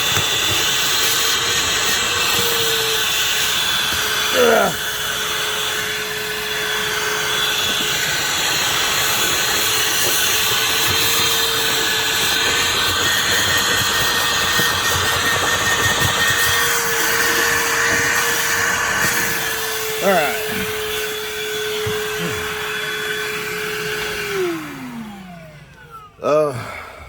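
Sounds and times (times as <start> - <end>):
wet dry vacuum whining: 0.0 - 27.0.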